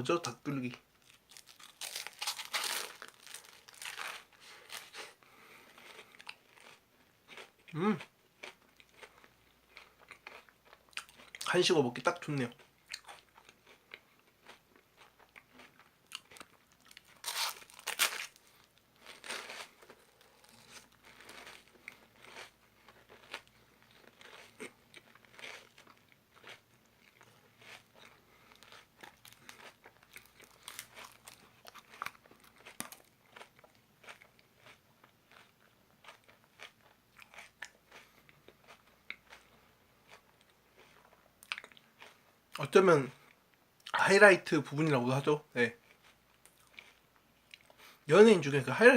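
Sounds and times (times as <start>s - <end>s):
crunching ice cream cone: 1.0s - 11.5s, 12.1s - 42.2s
chewing: 1.1s - 11.5s, 12.5s - 42.2s, 45.8s - 48.0s.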